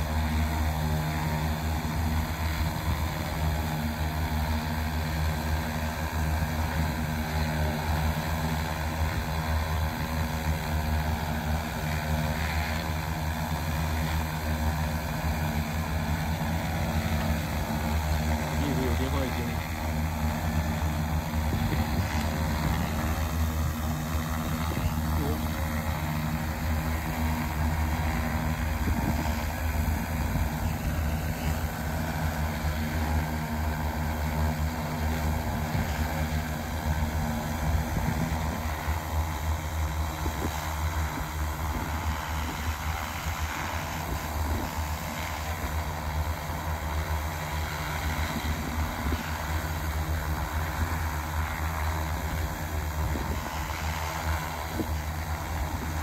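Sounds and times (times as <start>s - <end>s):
drone hovering hum: 0.0s - 56.0s.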